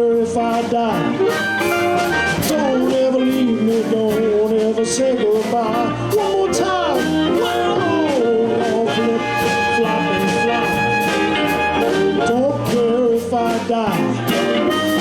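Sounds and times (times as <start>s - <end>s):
blues band playing: 0.0s - 15.0s
blues harmonica: 0.0s - 15.0s.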